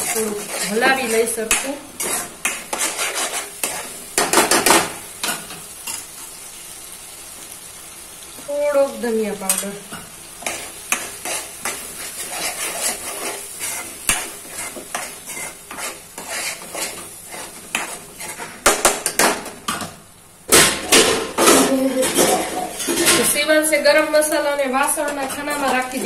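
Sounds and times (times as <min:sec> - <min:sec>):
spoon stirring and scraping pan: 0:00.0 - 0:06.6, 0:09.3 - 0:26.0
light sizzle: 0:00.0 - 0:26.0.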